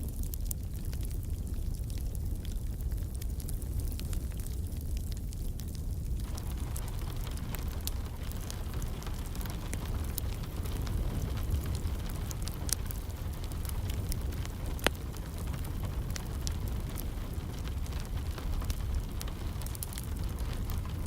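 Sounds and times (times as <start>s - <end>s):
low rumble of fire: 0.0s - 21.0s
wood fire crackling: 0.0s - 21.0s.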